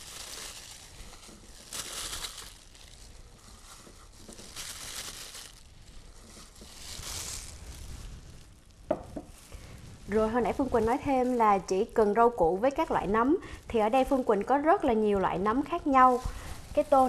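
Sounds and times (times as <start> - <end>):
plastic glove crinkling: 0.0 - 17.0.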